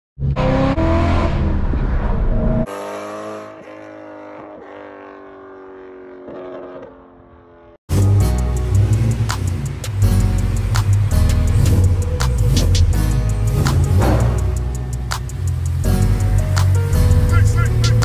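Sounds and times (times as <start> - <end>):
car engine revving: 0.2 - 18.0.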